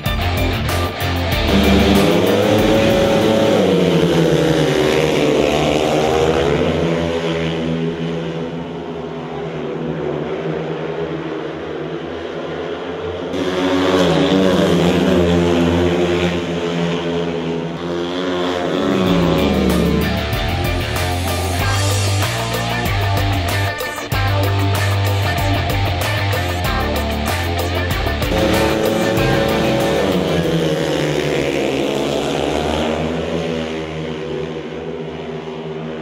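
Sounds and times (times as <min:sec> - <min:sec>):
motorcycle engines racing: 0:00.0 - 0:36.0.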